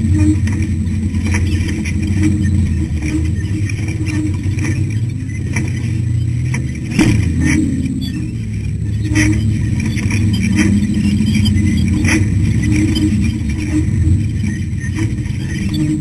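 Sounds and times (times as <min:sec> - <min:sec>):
car engine under load: 0:00.0 - 0:16.0
chassis knocks and rattles: 0:00.0 - 0:16.0.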